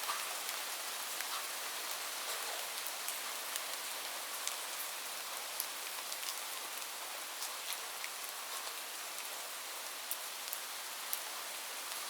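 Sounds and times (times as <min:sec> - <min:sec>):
heavy rain on a roof: 0:00.0 - 0:12.0.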